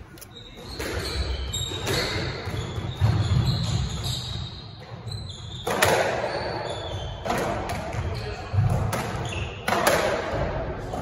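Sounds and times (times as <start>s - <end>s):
racquet hitting ball: 0.6s - 11.0s.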